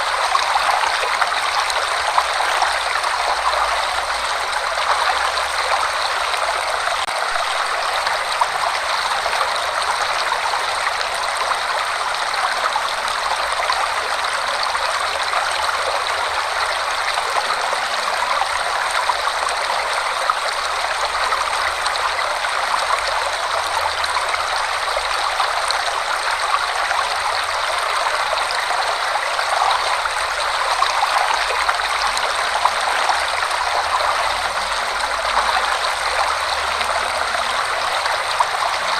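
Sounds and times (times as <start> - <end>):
waterfall pouring and splashing: 0.0 - 38.9.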